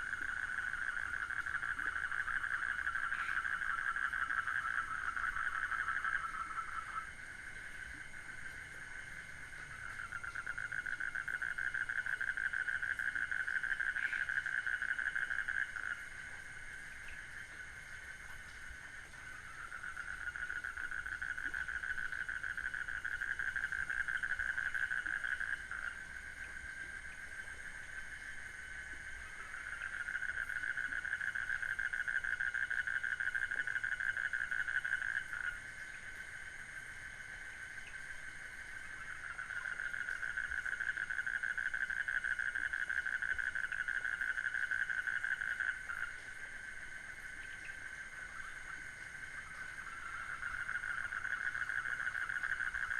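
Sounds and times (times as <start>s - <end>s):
frogs trilling: 0.0s - 52.9s.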